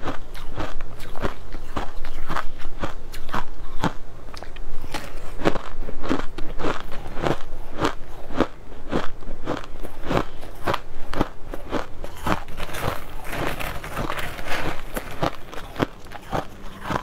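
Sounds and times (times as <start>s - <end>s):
ice being chewed and crunched: 0.0s - 17.0s.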